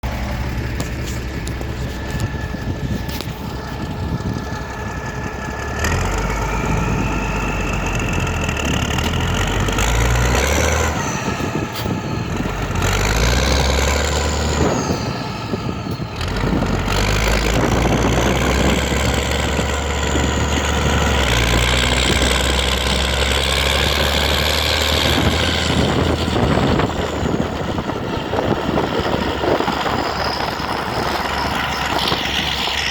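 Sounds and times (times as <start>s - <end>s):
deep rumble: 0.0s - 32.9s
large engine whining: 0.0s - 32.9s.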